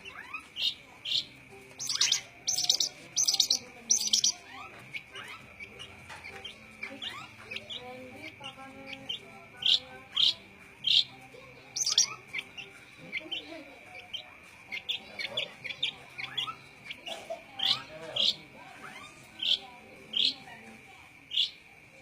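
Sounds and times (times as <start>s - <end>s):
bird sharp chirps: 0.0s - 11.1s, 11.7s - 17.0s, 17.6s - 20.4s, 21.3s - 21.6s.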